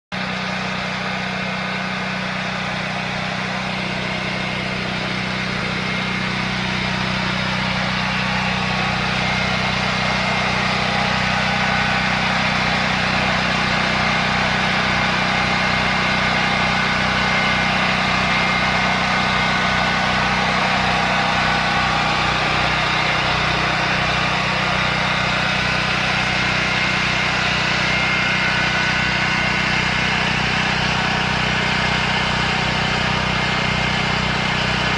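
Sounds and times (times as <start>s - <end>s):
portable generator engine drone: 0.1s - 34.9s.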